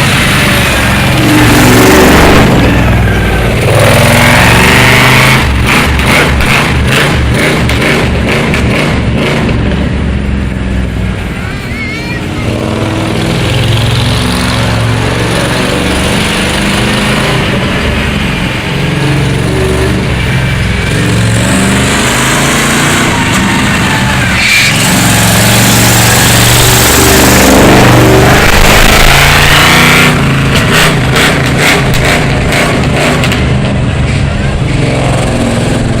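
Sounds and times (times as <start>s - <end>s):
monster truck engine revving: 0.0s - 9.9s, 12.2s - 36.0s.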